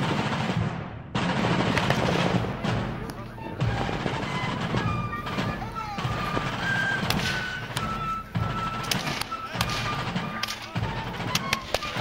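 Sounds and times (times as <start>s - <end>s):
low repeating beat: 0.0s - 12.0s.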